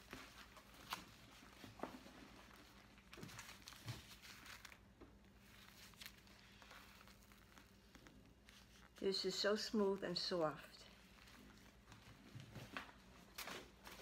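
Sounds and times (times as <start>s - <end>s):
bubble wrap crinkling: 0.0s - 14.0s
faint steady hum: 0.0s - 14.0s.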